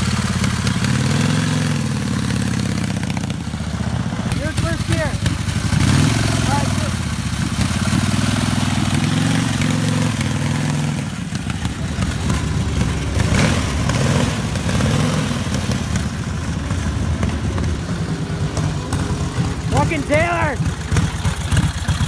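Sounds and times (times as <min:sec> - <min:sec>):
motorcycle engine: 0:00.0 - 0:22.0.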